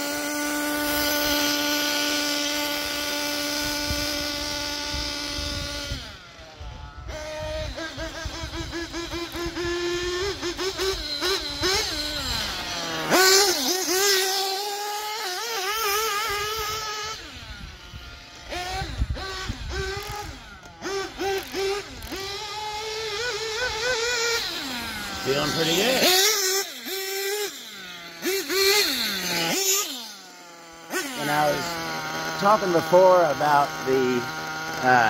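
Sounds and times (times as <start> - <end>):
rc car engine revving: 0.0 - 35.0.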